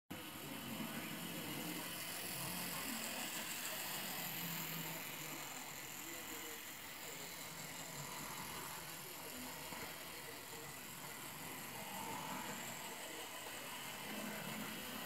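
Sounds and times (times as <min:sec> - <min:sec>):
model train motor whirring: 0:00.2 - 0:15.0
model train rolling on track: 0:00.2 - 0:15.0.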